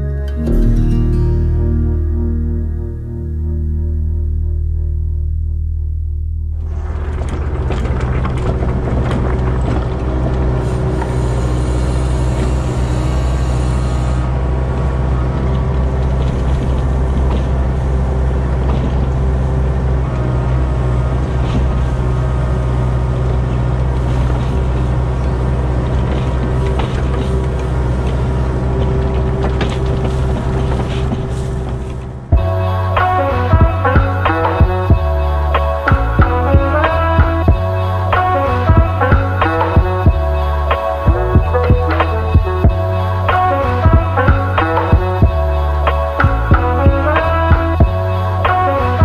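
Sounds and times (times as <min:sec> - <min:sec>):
diesel engine humming: 0:00.0 - 0:49.0.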